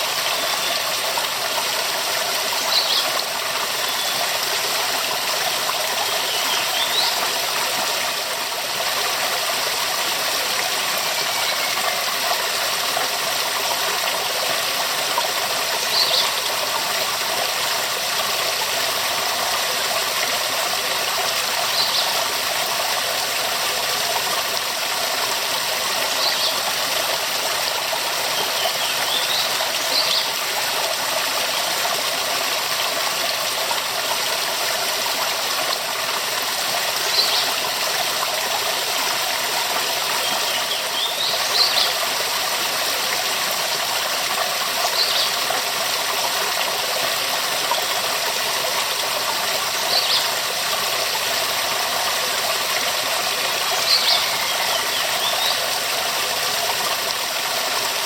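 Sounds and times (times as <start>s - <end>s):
waterfall rushing: 0.0s - 44.3s, 44.9s - 58.0s.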